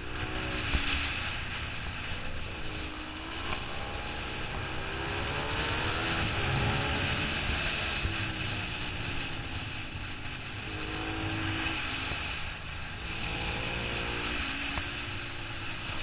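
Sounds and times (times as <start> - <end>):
motorcycle engine racing: 0.0 - 16.0
wind rush: 0.0 - 16.0.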